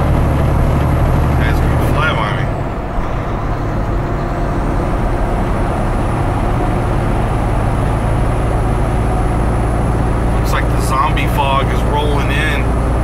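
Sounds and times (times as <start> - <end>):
road noise on wet highway: 0.0 - 13.0
truck engine rumble: 0.0 - 13.0.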